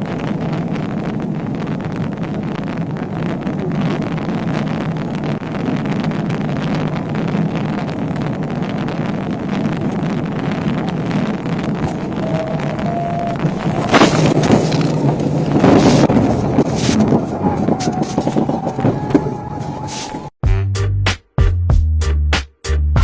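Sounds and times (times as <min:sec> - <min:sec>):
vehicle engine and road rumble: 0:00.0 - 0:20.4
wind rushing over microphone: 0:00.0 - 0:20.4.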